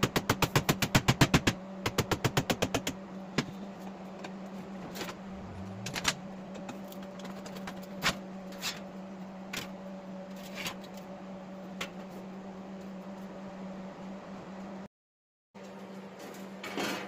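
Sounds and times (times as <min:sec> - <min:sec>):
steady hum: 0:00.0 - 0:14.9.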